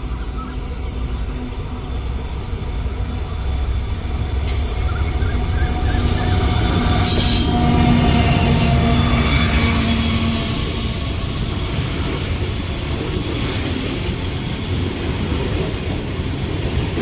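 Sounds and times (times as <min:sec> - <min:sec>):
freight train rumbling: 0:00.0 - 0:17.0
wheels hissing on rails: 0:00.0 - 0:17.0.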